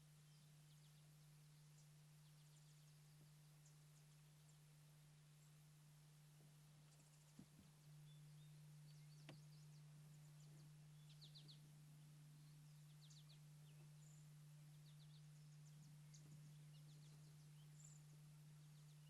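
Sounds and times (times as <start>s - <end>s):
faint songbird calls: 0.0s - 19.0s
steady low hum: 0.0s - 19.0s.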